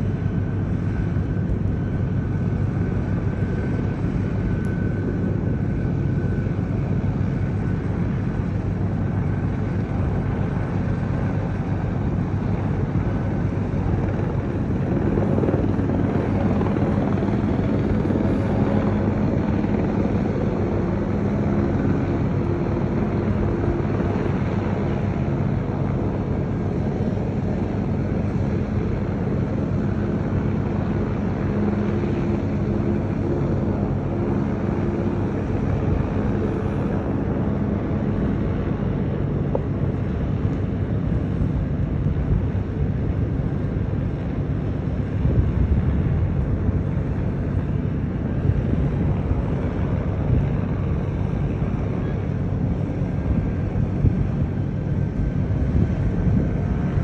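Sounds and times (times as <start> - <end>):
faint droning hum: 0.0 - 57.0
low rumble of ship engine: 0.0 - 57.0
wind: 0.0 - 57.0.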